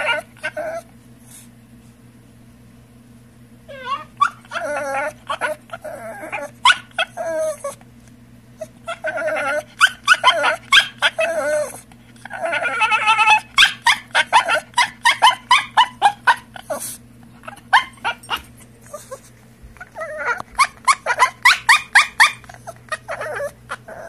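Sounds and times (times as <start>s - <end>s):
small dog whining shrilly: 0.0s - 0.9s, 3.7s - 7.8s, 8.6s - 24.0s.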